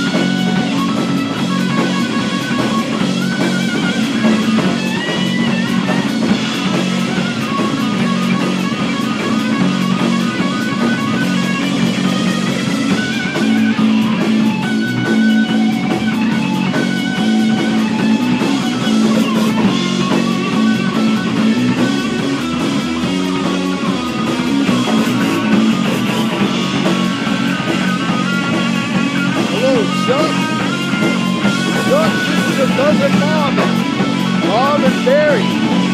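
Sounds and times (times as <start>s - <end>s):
bass line: 0.0s - 35.9s
drums: 0.0s - 35.9s
lead guitar: 0.0s - 35.9s.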